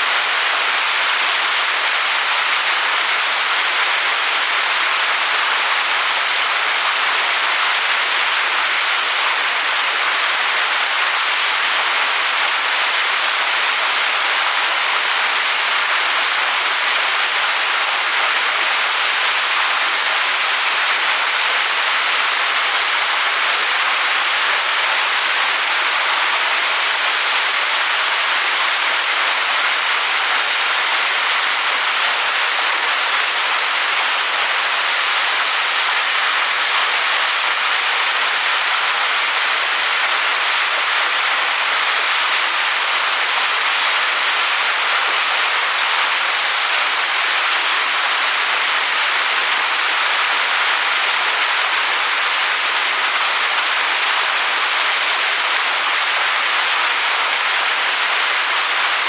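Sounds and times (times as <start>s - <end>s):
waterfall splashing onto rocks: 0.0s - 59.0s.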